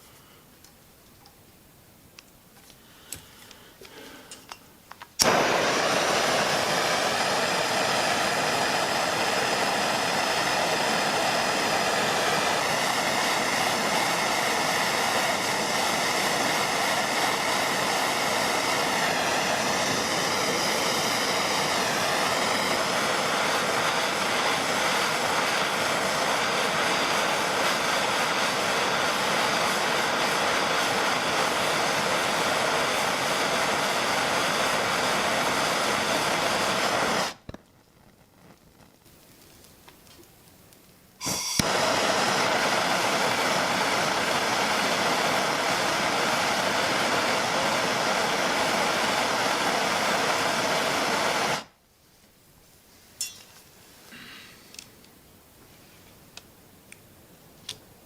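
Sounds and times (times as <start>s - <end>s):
gas torch hissing: 2.7s - 51.8s, 53.2s - 55.1s.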